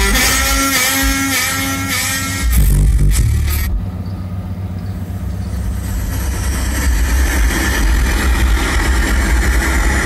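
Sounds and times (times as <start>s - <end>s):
bass-heavy music through subwoofer: 0.0s - 10.0s.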